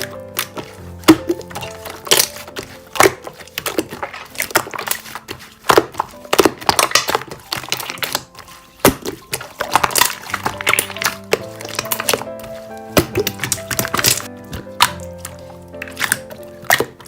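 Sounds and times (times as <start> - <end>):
slime crackling and popping: 0.0 - 17.0.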